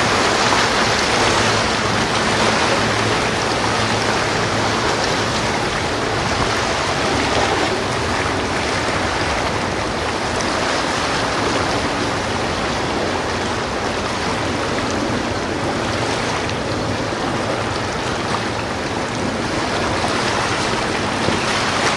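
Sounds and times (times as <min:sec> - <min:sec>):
sea water rushing: 0:00.0 - 0:21.9
wind: 0:00.0 - 0:21.9.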